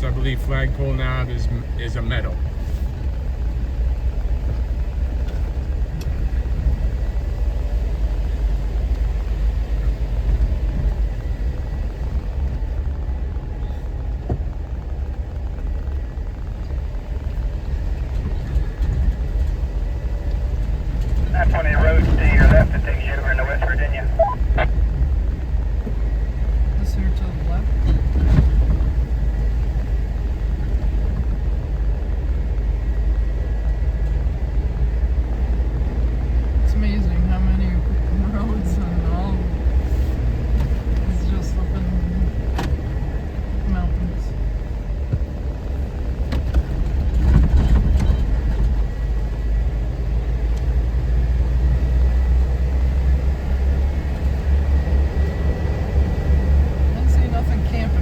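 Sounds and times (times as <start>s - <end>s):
vehicle engine and tyre rumble: 0.0s - 58.0s.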